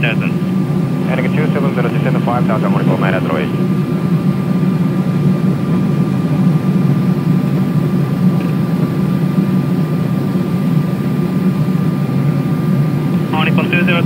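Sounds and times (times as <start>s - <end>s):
aircraft cabin engine rumble: 0.0s - 14.0s.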